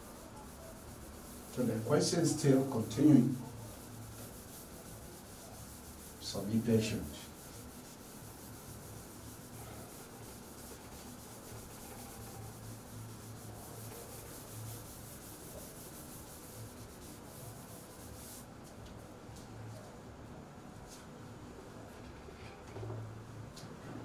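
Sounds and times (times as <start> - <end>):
cloth wiping chalkboard: 0.0 - 20.0.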